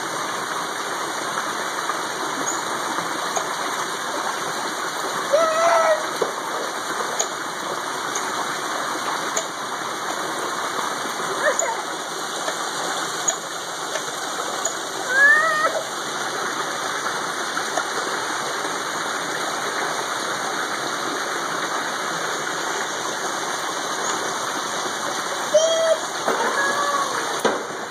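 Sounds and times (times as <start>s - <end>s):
water splashing over rocks: 0.0s - 27.9s.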